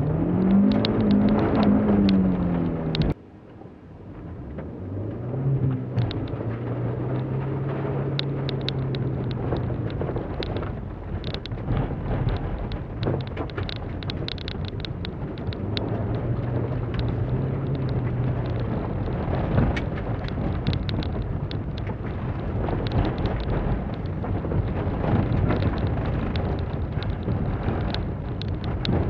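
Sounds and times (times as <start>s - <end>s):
car engine revving: 0.0s - 3.2s, 4.1s - 29.0s
gravel ticking against car: 0.0s - 3.2s, 5.6s - 29.0s.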